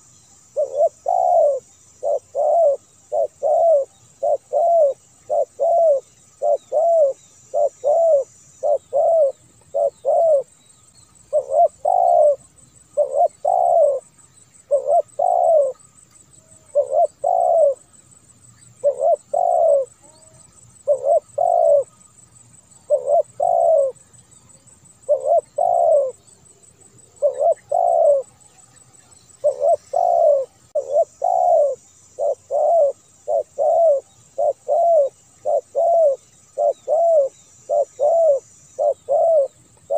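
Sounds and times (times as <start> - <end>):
dove cooing: 0.0 - 10.6, 11.3 - 17.9, 18.7 - 39.9.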